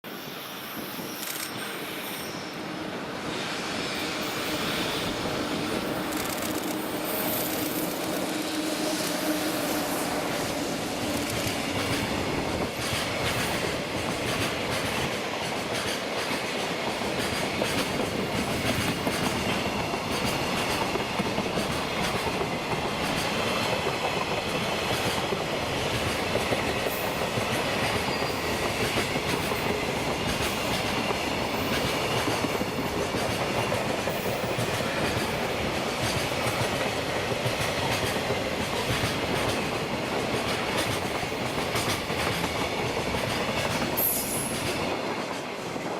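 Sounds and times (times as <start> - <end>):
freight train passing: 0.0 - 45.9.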